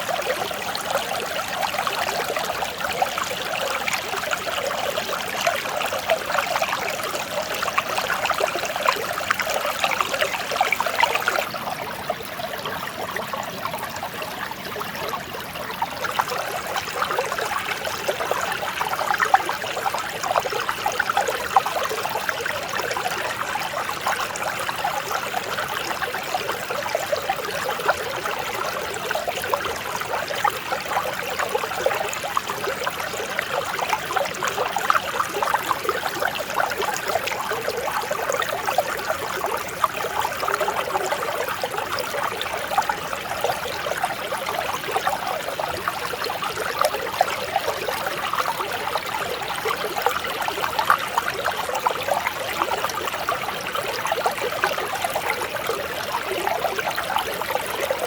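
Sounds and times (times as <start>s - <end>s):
stream bubbling over rocks: 0.0s - 58.0s.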